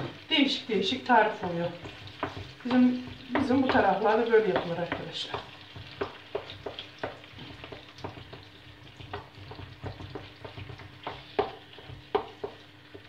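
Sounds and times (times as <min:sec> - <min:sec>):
faint sizzle: 0:00.0 - 0:13.0
wooden spoon scraping a pan: 0:01.3 - 0:13.0
spoon knocking against pan: 0:01.7 - 0:13.0.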